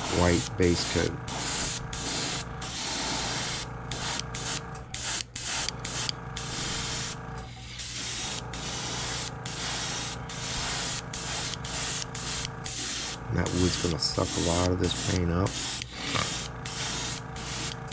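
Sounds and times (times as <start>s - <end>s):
airbrush spraying hiss: 0.0s - 7.2s, 7.8s - 17.9s
steady low hum: 0.0s - 17.9s.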